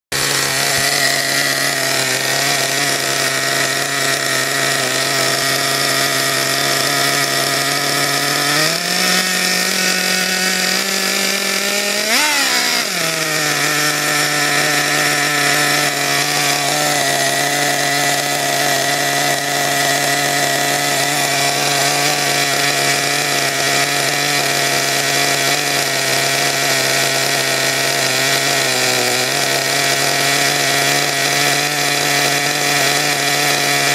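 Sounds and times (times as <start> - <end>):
nitro engine buzzing: 0.1 - 33.9.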